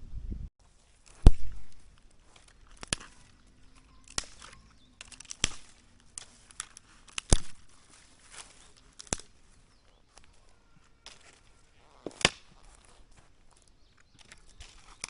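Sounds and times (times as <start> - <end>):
sharp cracks and knocks: 1.0 - 10.3, 11.0 - 12.9, 13.5 - 15.0.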